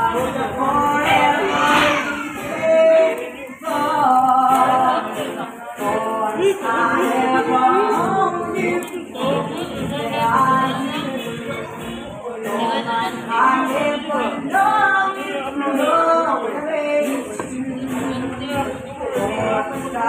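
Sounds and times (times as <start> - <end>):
acoustic guitar: 0.0 - 20.0
young man singing: 0.0 - 20.0.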